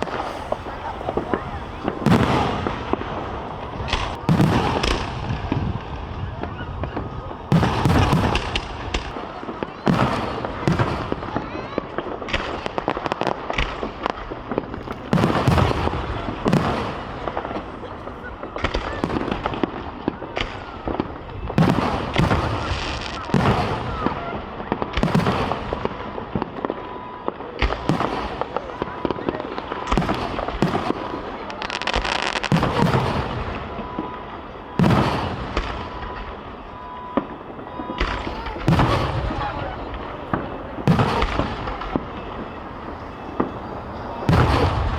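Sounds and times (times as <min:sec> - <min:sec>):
fireworks crackling pops: 0:00.0 - 0:44.9
fireworks deep boom: 0:00.0 - 0:44.9.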